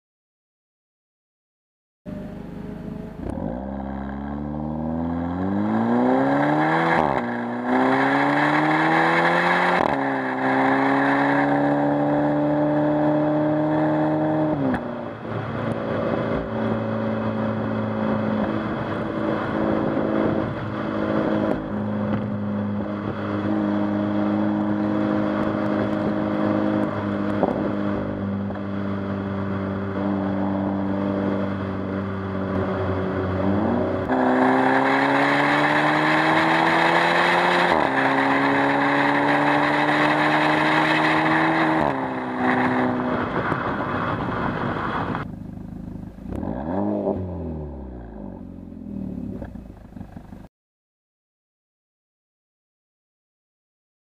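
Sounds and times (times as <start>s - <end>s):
car exhaust under acceleration: 2.1s - 50.5s.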